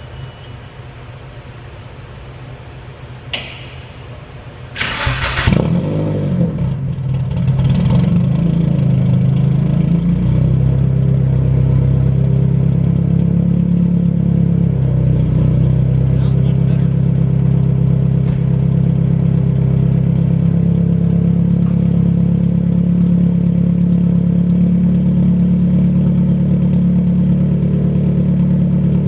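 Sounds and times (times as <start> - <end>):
car engine starting and idling: 1.8 - 29.0.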